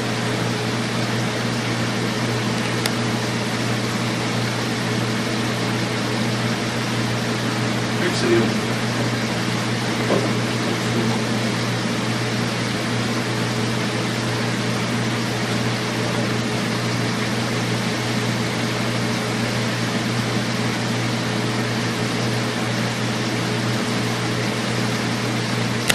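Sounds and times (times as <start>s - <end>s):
ventilation fan humming: 0.0s - 25.9s.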